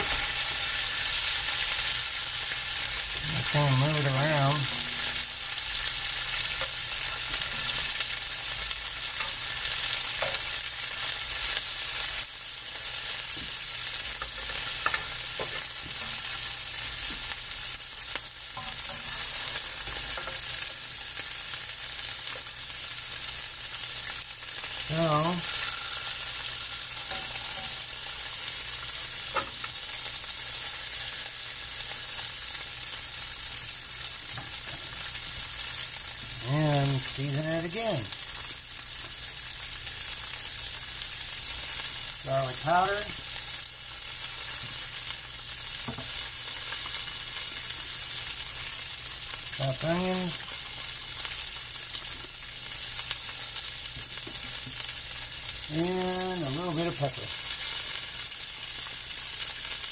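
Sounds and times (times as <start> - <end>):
pork chops sizzling in a frying pan: 0.0 - 59.9.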